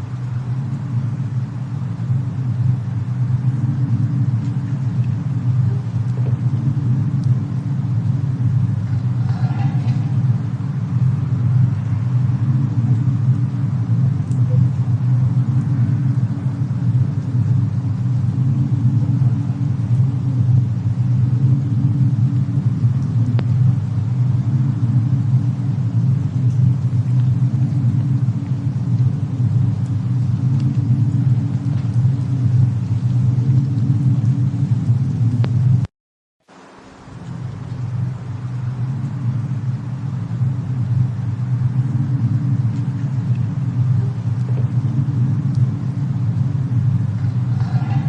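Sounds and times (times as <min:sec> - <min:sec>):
faint fire crackles: 0:00.0 - 0:48.0
steady low rumble: 0:00.0 - 0:48.0.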